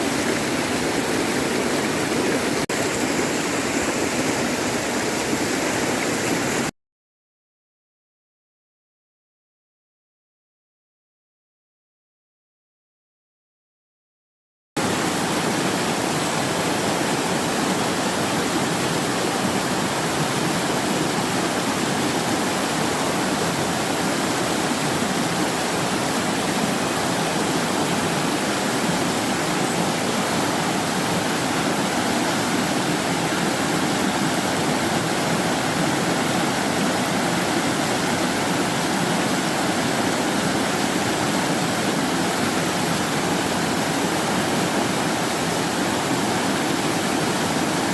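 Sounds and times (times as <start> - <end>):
stream rushing over rocks: 0.0 - 6.7, 14.8 - 47.9.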